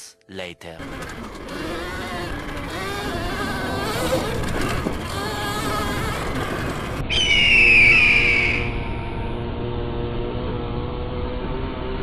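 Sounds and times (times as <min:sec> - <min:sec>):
electric dirt bike drive whining: 0:00.8 - 0:12.0.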